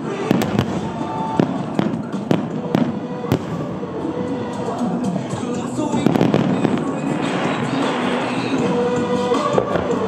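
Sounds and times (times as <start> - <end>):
fireworks bursting: 0.0 - 10.0
fireworks crackling and rumble: 0.0 - 10.0.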